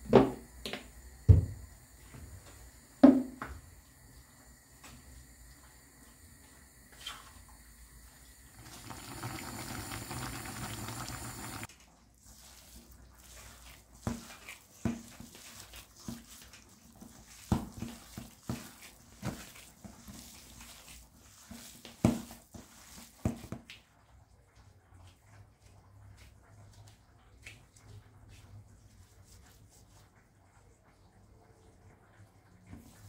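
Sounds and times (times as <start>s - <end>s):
water running: 0.0s - 33.0s.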